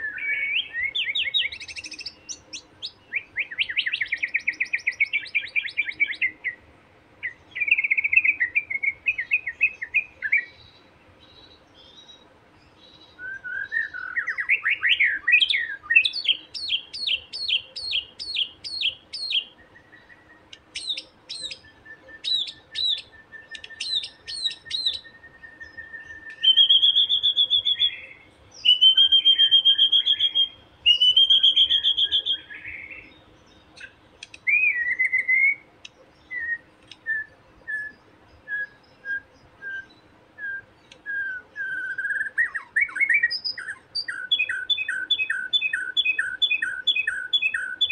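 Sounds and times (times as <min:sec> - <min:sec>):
bird singing and whistling: 0:00.0 - 0:06.6, 0:07.2 - 0:10.8, 0:12.8 - 0:47.9
harsh buzzy bird calls: 0:07.3 - 0:47.9.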